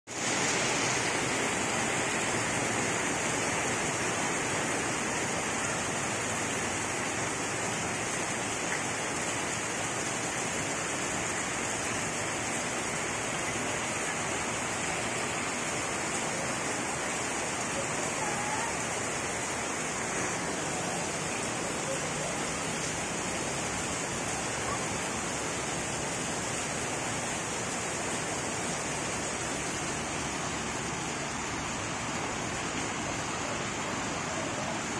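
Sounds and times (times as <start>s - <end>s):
heavy rain on foliage and gravel: 0.1s - 34.9s.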